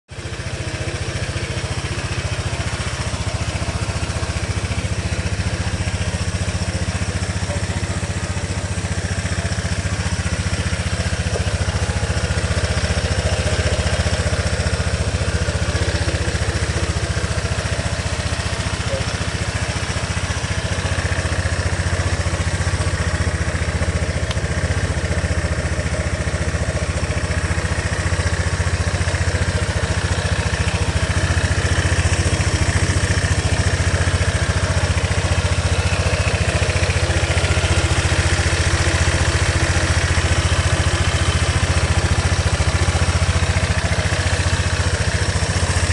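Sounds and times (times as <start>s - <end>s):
scooter engine idling: 0.1s - 45.9s.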